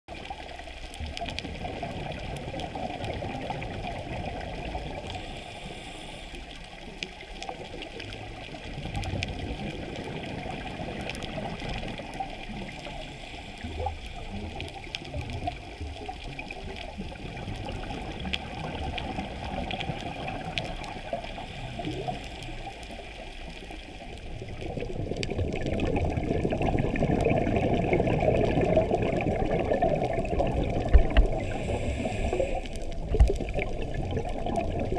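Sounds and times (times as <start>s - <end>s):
muffled underwater water noise: 0.1s - 34.9s.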